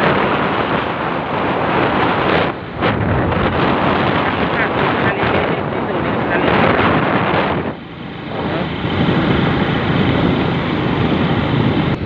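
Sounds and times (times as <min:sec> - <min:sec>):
wind rushing over microphone: 0:00.0 - 0:12.0
motorcycle engine running: 0:01.0 - 0:12.0.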